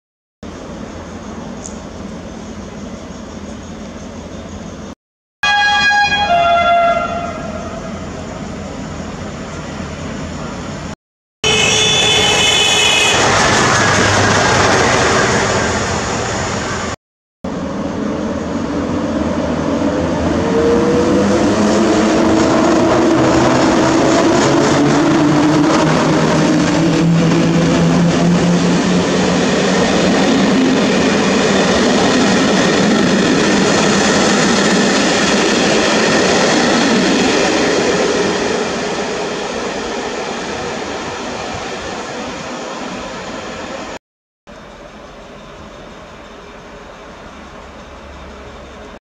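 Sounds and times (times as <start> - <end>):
passenger train passing: 0.4 - 49.0.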